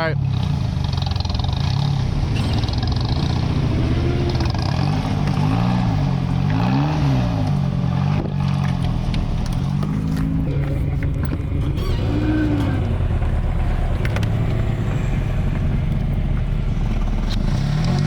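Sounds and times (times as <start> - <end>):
car engine with loud exhaust: 0.0 - 18.0.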